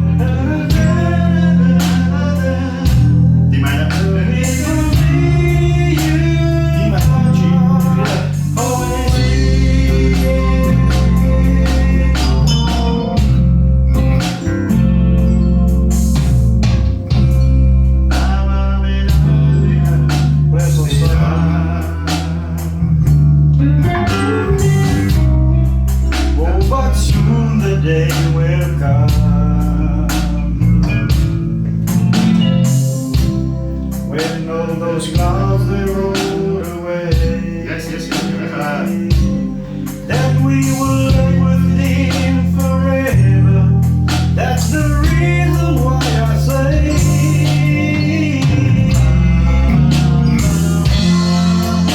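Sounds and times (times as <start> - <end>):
bass guitar: 0.0 - 51.9
drum kit: 0.0 - 51.9
electric guitar: 0.0 - 51.9.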